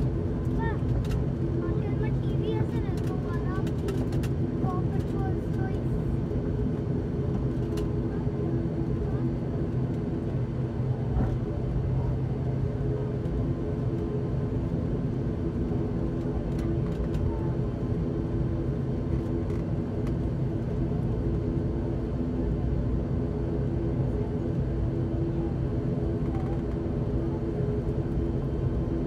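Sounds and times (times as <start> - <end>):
turboprop engine droning: 0.0 - 29.0.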